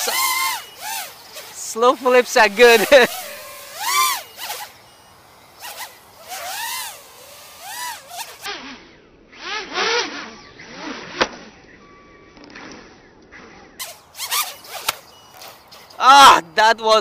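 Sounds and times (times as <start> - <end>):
drone motors whining: 0.0 - 16.3.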